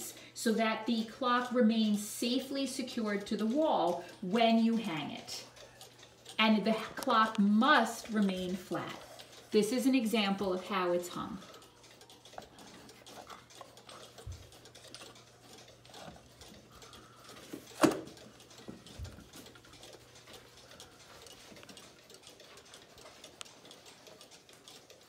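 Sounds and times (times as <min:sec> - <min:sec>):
clock ticking: 0:00.0 - 0:25.0.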